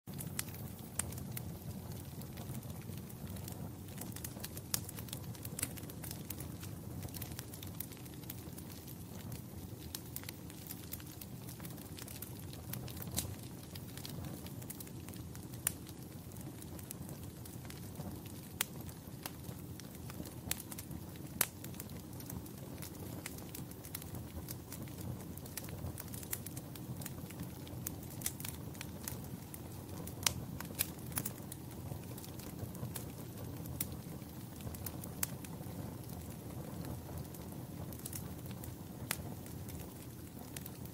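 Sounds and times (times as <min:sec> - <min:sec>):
low rumble of flames: 0:00.1 - 0:40.9
wood fire crackling: 0:00.1 - 0:40.9.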